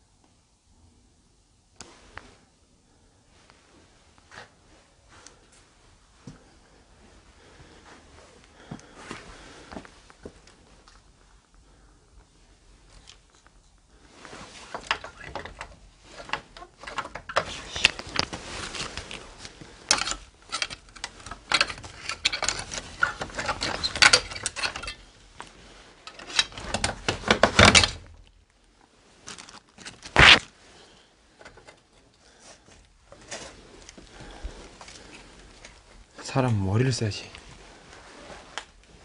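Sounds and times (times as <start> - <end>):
rustling and scraping: 3.3 - 39.0.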